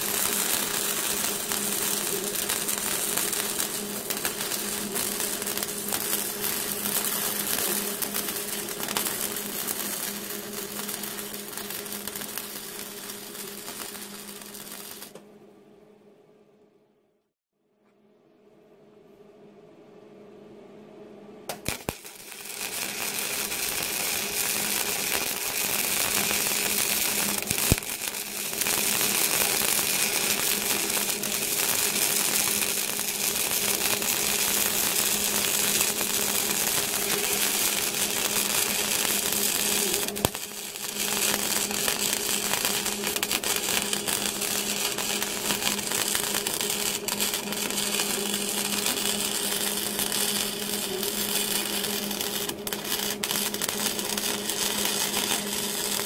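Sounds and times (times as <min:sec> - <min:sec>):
welding arc crackling: 0:00.0 - 0:15.2, 0:21.5 - 0:56.0.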